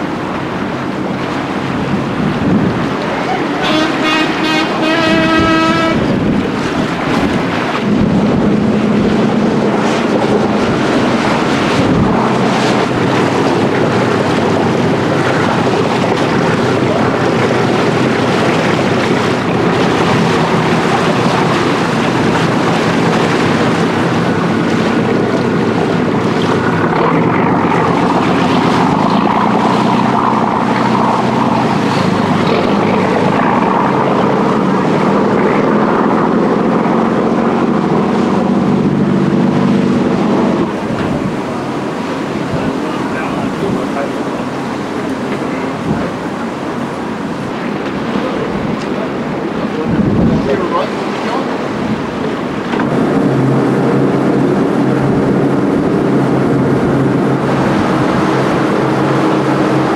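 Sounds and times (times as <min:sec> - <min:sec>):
boat engine drone: 0:00.0 - 0:59.9
water rushing along hull: 0:00.0 - 0:59.9
wind buffeting microphone: 0:00.0 - 0:59.9.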